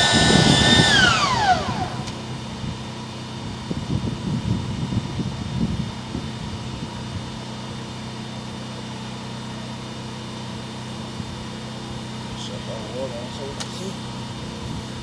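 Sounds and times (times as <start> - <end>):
drain-cleaning machine humming: 0.0 - 15.0.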